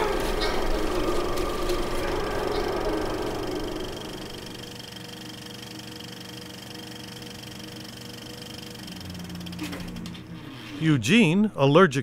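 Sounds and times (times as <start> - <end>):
whirring hum with flutter: 0.0 - 10.8.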